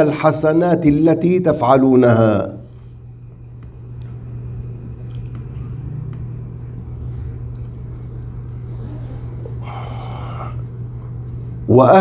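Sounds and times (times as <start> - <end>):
low hum with rumble: 0.0 - 12.0.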